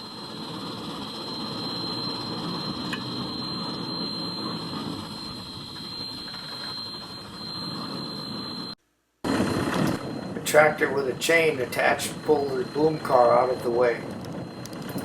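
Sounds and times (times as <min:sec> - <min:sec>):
machinery rumble: 0:00.0 - 0:15.0
thin high whine: 0:00.0 - 0:15.0.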